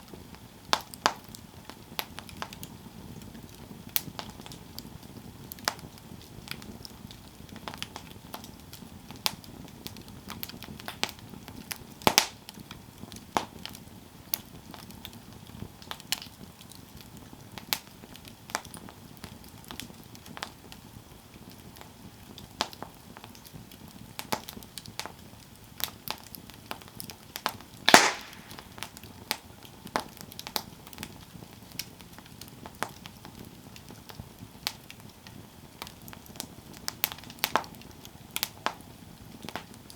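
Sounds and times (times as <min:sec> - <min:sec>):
campfire snaps and pops: 0:00.0 - 0:39.9
low rumble of burning fire: 0:00.0 - 0:39.9.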